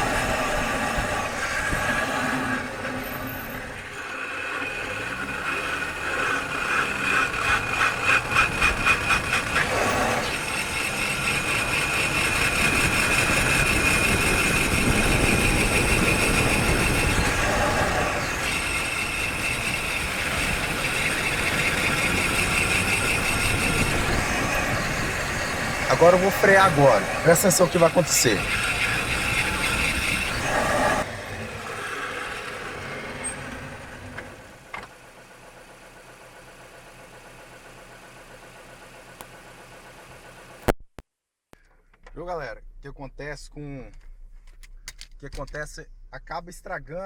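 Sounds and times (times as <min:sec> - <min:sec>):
brake squealing and grinding: 0:00.0 - 0:40.7
road and engine noise: 0:00.0 - 0:40.8, 0:41.6 - 0:47.0.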